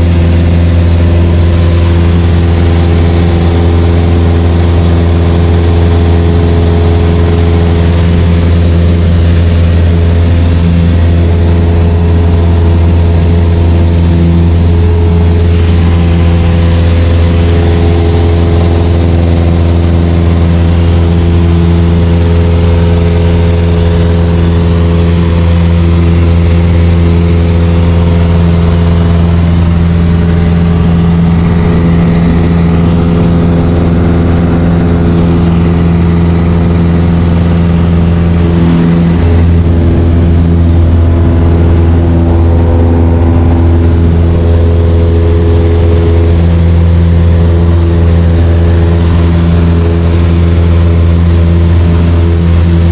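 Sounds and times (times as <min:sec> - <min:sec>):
aircraft engine and propeller drone: 0:00.0 - 0:52.9.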